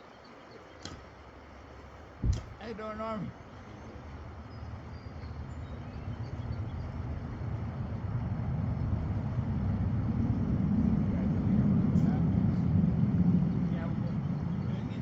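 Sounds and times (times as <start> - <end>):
vehicle engine rumble: 0.8 - 15.0.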